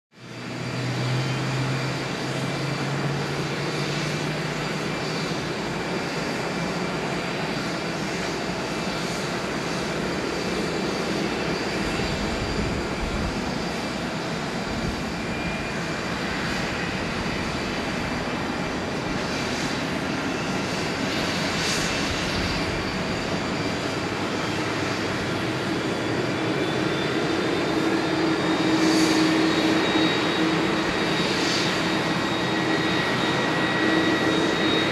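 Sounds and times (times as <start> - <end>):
jet airliner engine whine: 0.1 - 34.9.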